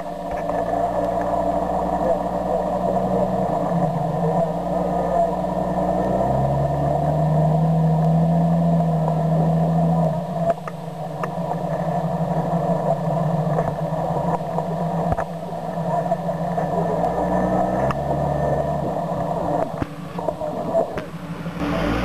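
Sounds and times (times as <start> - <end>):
engine pulling at low speed: 0.0 - 22.0.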